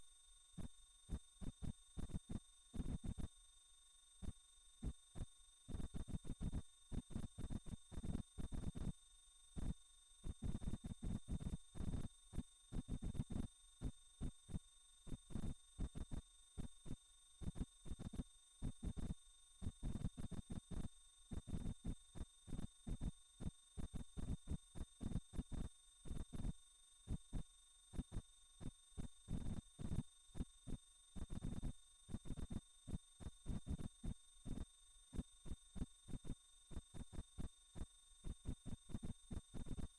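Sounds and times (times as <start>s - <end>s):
high-pitched pulsing sine tone: 0.0s - 39.9s.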